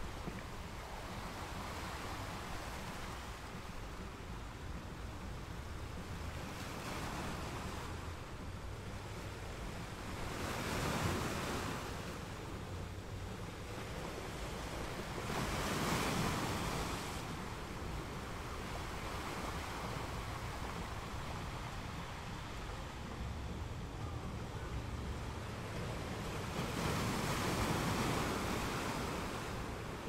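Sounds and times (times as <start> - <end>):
ocean waves breaking: 0.0 - 30.0
surf hiss: 0.0 - 30.0.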